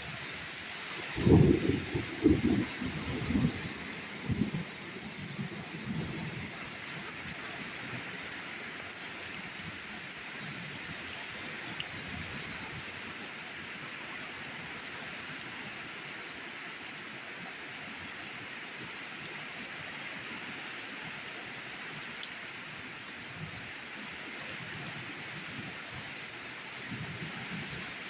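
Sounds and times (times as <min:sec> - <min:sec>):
torrential rain pouring: 0:00.0 - 0:28.0.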